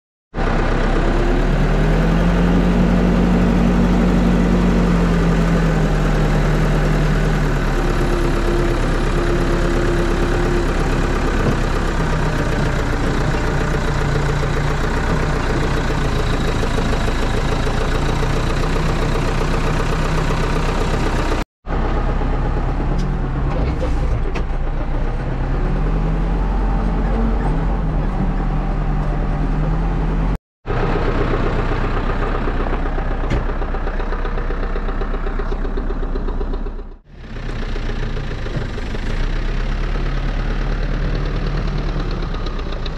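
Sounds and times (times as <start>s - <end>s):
diesel engine drone: 0.3s - 42.9s.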